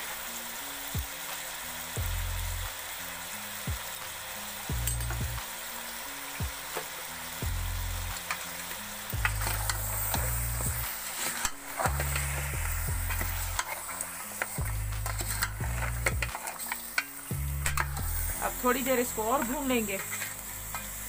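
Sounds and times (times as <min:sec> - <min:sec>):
background music with low bass: 0:00.0 - 0:21.0
meat sizzling in hot oil: 0:00.0 - 0:21.0.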